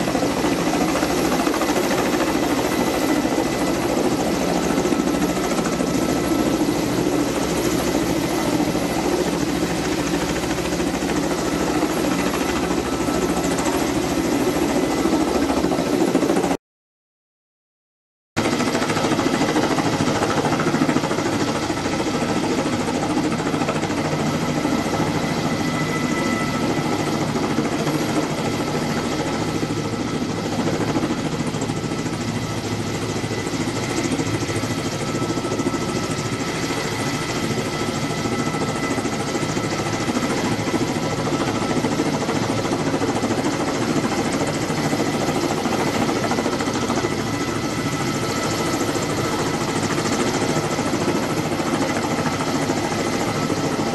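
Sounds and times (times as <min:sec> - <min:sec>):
helicopter hovering: 0:00.0 - 0:16.6, 0:18.4 - 0:53.9.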